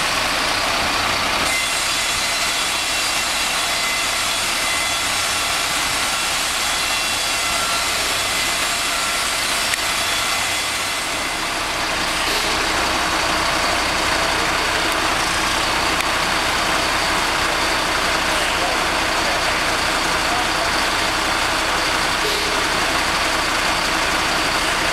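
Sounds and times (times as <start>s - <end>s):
crane engine running: 0.0s - 24.9s.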